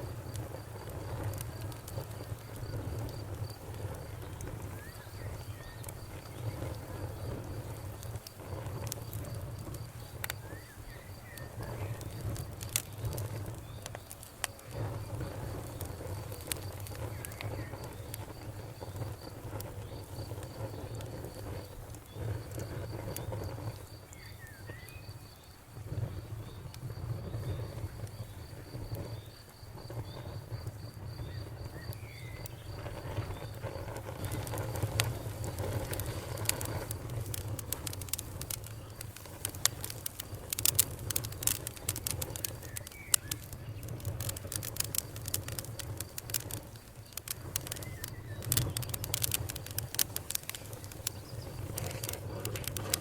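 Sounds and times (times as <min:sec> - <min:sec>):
fire crackling and popping: 0:00.0 - 0:53.0
rumble of flames: 0:00.0 - 0:53.0.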